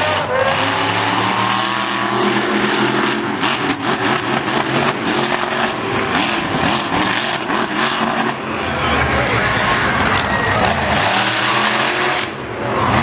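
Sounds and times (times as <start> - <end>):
large vehicle engine revving: 0.5 - 13.0.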